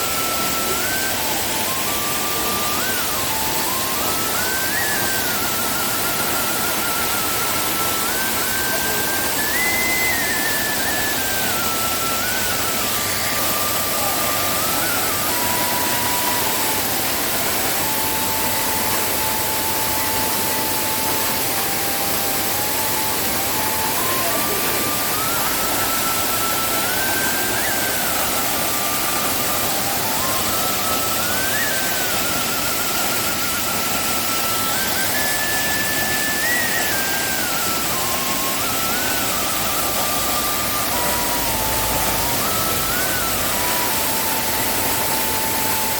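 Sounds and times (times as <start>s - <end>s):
faint slow melody: 0.0s - 45.9s
waterfall rushing: 0.0s - 45.9s.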